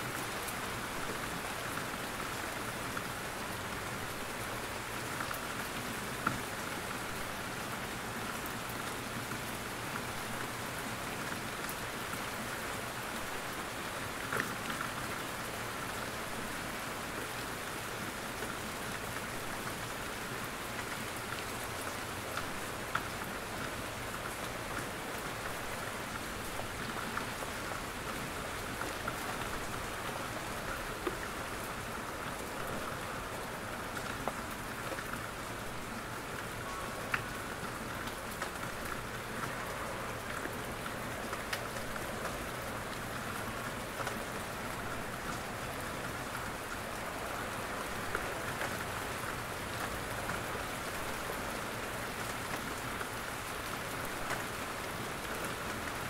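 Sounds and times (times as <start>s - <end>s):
rain falling in forest: 0.0s - 56.0s.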